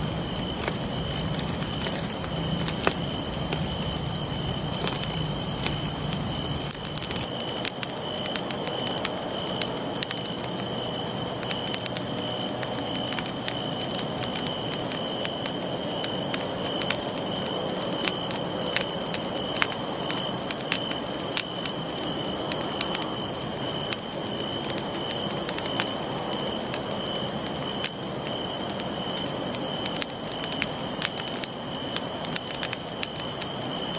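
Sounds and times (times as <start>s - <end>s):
campfire crackling and popping: 0.0s - 33.9s
high insect trill: 0.0s - 33.9s.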